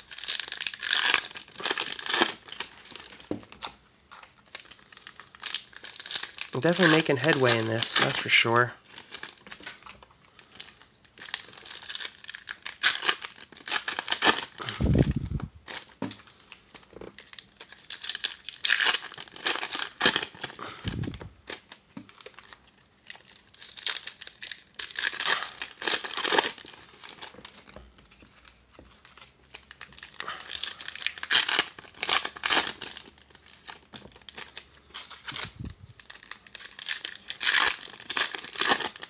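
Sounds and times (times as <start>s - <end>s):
foil wrappers tearing and crinkling: 0.0s - 39.0s.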